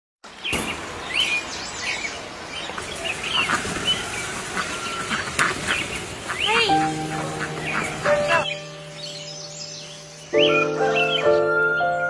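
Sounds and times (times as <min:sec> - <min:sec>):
outdoor background hiss: 0:00.2 - 0:12.0
small birds chirping: 0:00.2 - 0:12.0.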